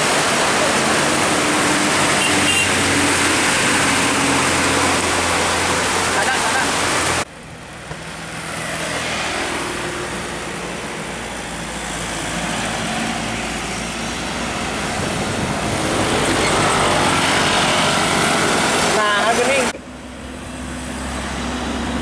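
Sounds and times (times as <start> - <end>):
bus engine: 0.0 - 22.0
rain and wet tyres hissing: 0.0 - 22.0.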